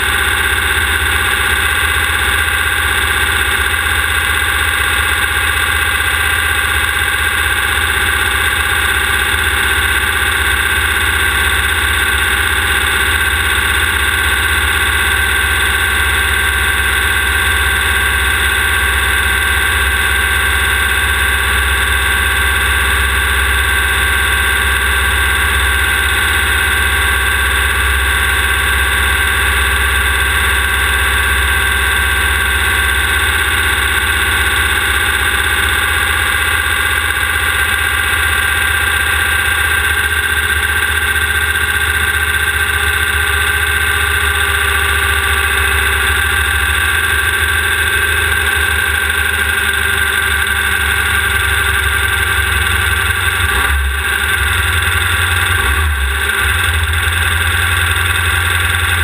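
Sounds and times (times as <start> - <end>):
buggy engine running hard: 0.0 - 59.0.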